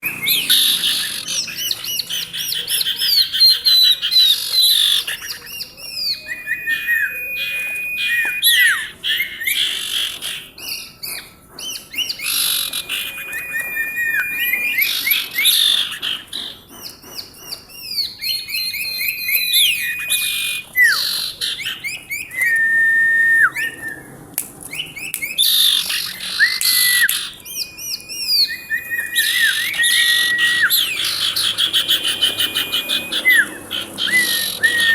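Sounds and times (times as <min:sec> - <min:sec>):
bird singing whistled notes: 0:00.0 - 0:24.1, 0:24.7 - 0:34.9.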